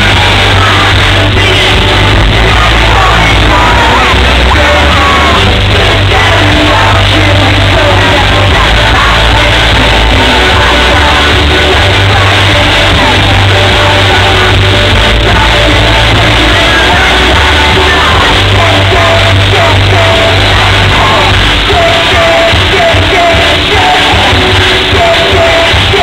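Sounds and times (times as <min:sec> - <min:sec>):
crowd yelling and screaming: 0:00.0 - 0:26.0
distorted live pop-rock band: 0:00.0 - 0:26.0.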